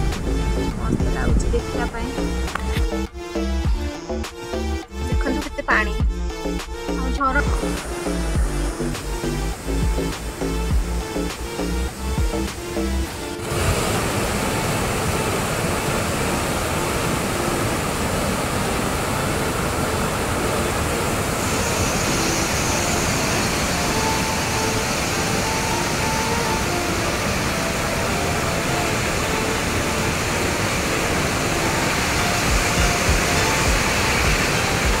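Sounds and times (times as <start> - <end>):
waterfall roaring: 5.3 - 35.0.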